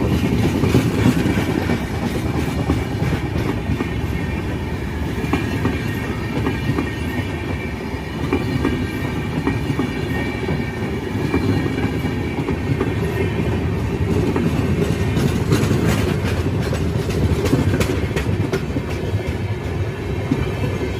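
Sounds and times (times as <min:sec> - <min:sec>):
wheels clacking over rail joints: 0:00.0 - 0:04.4, 0:08.2 - 0:20.9
train wheels rumbling on rails: 0:00.0 - 0:20.9.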